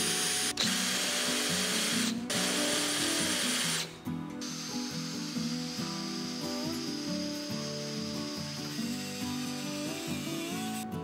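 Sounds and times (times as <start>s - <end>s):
electric drill cutting metal: 0.0s - 10.9s
background music: 0.0s - 11.0s.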